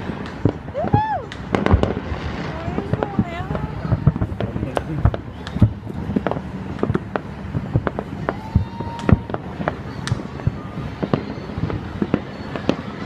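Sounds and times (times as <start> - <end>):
firework whistle: 0.0 - 13.0
fireworks bangs and crackles: 0.0 - 13.0.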